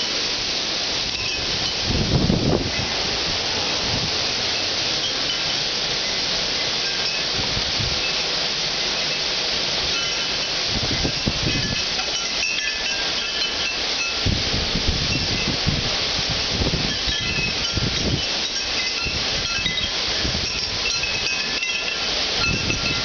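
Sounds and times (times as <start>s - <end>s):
heavy rain falling: 0.0s - 23.0s
wind chimes tinkling: 1.1s - 15.9s, 16.6s - 23.0s.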